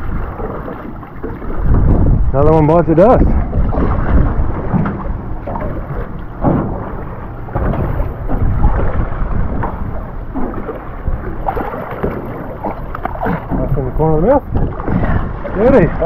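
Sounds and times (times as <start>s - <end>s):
water noise: 0.0s - 16.0s
wind buffeting microphone: 0.0s - 16.0s.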